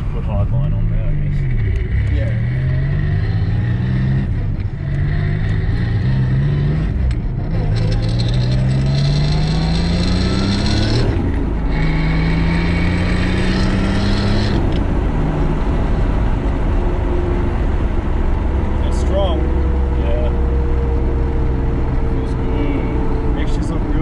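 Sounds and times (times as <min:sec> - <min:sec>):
car engine accelerating hard: 0:00.0 - 0:24.0
high turbo whine: 0:00.0 - 0:24.0.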